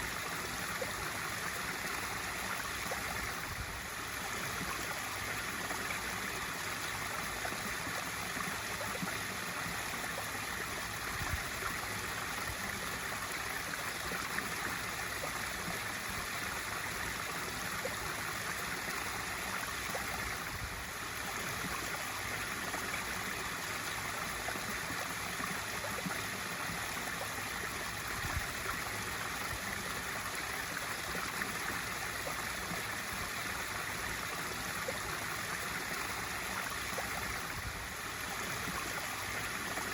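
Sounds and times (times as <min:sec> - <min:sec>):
waterfall pouring into pool: 0:00.0 - 0:39.9.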